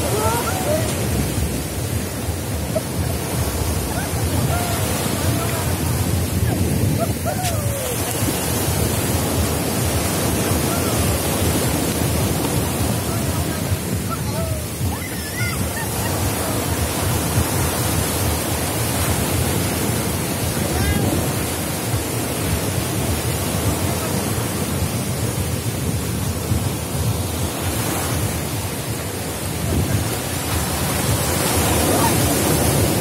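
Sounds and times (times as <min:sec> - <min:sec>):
sea surf breaking: 0:00.0 - 0:33.0
wind rumbling on microphone: 0:00.0 - 0:33.0.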